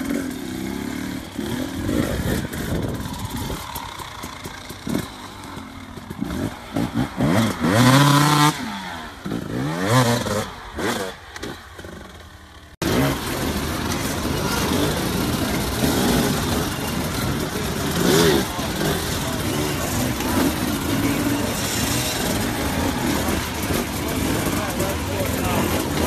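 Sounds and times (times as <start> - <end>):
dirt bike engine revving: 0.0 - 26.0
motorcycle engines din: 0.0 - 26.0
outdoor noise: 0.0 - 26.0.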